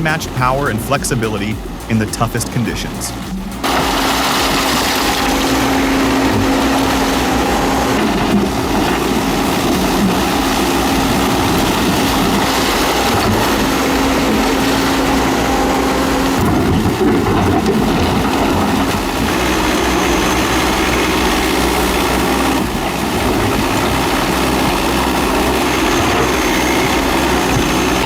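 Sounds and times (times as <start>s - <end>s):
heavy machine engine droning: 0.0s - 28.0s.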